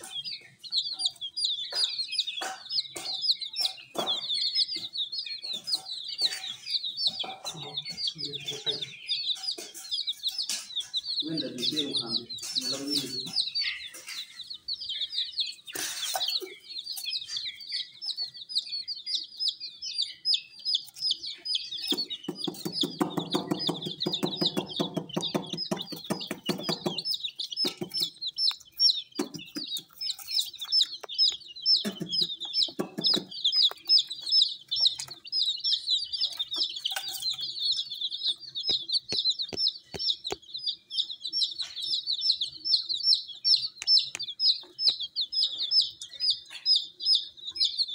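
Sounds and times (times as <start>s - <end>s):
baby chicks peeping: 0.0s - 47.9s.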